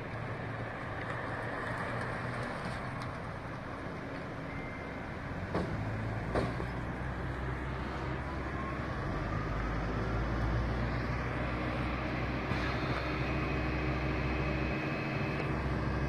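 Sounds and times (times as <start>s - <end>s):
fire engine idling: 0.0s - 16.0s.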